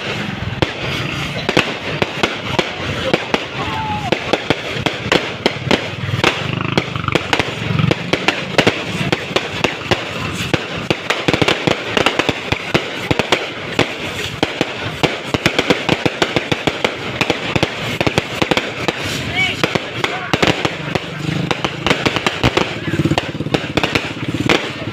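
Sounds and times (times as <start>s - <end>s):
fireworks cracking and banging: 0.0s - 24.9s.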